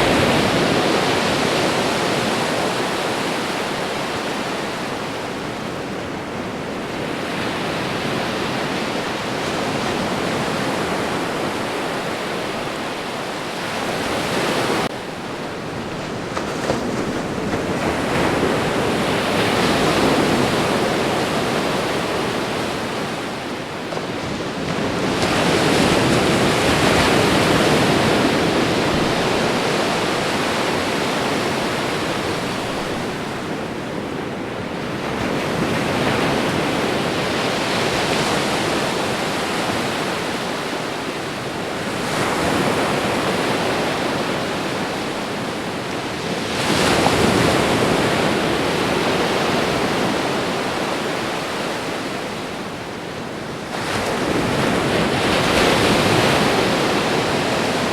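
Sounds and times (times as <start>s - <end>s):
ocean waves breaking: 0.0s - 57.9s.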